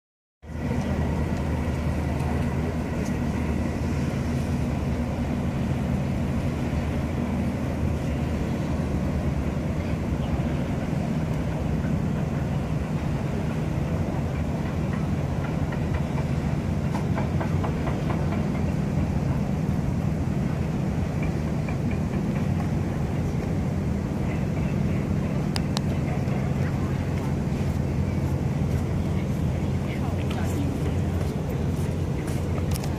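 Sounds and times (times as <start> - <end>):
low engine drone: 0.4 - 32.9.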